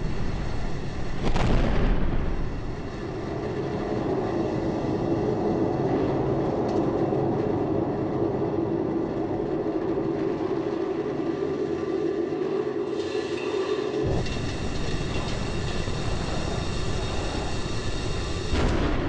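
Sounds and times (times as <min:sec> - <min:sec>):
droning hum: 0:00.0 - 0:19.0.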